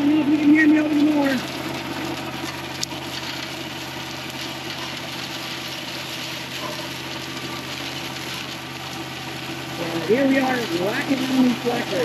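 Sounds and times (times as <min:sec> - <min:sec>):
flail mower chewing vines: 0:00.0 - 0:12.0
tractor diesel engine under load: 0:00.0 - 0:12.0.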